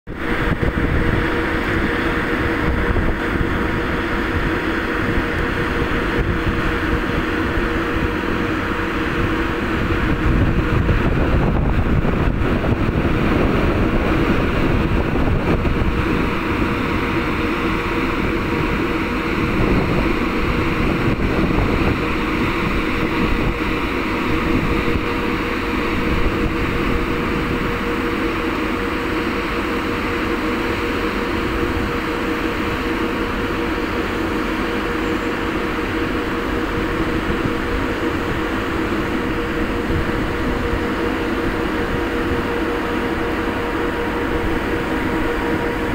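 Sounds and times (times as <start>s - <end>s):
wind buffeting microphone: 0.1s - 29.1s, 35.4s - 45.9s
ship engines droning: 0.1s - 45.9s.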